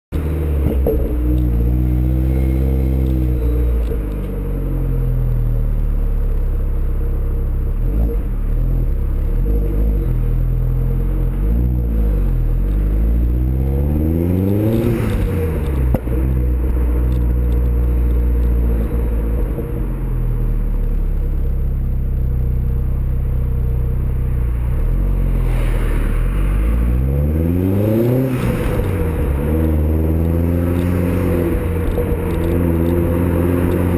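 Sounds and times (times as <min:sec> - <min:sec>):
car engine idling and revving: 0:00.1 - 0:33.9.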